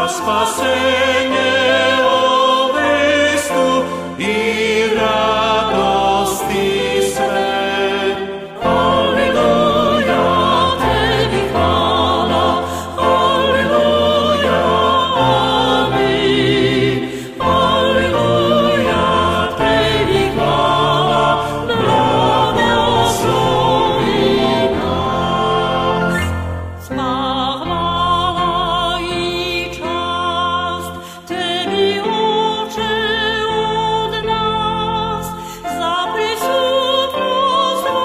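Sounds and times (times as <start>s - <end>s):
musical accompaniment: 0.0s - 38.0s
voices singing a hymn: 0.0s - 38.0s.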